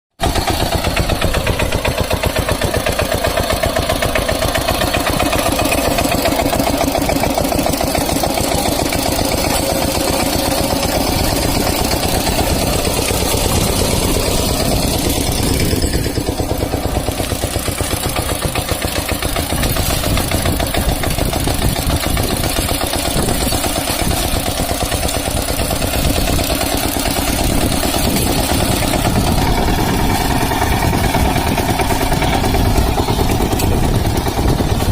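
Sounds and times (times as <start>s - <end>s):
diesel engine chugging: 0.2s - 34.9s.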